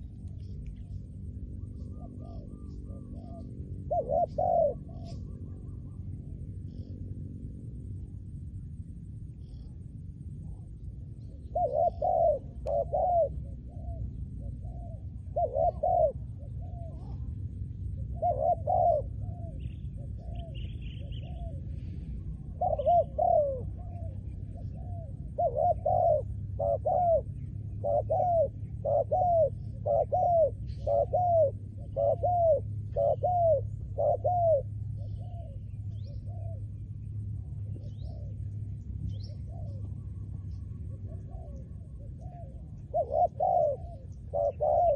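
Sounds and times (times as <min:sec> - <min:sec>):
dove cooing: 0:00.0 - 0:07.2, 0:10.5 - 0:44.9
low steady rumble: 0:00.0 - 0:44.9.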